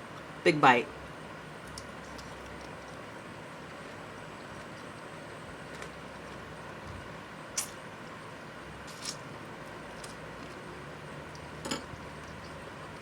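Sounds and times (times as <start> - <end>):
chewing salad: 1.6 - 13.0.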